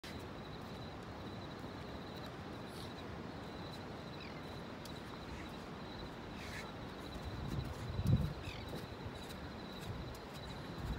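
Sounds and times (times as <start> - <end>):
high pulsing insect trill: 0.1 - 10.9.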